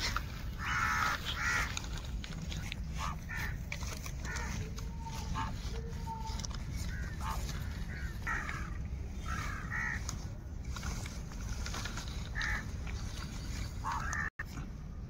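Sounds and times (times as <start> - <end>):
birds calling: 0.0 - 14.6
steady low rumble: 0.0 - 15.0.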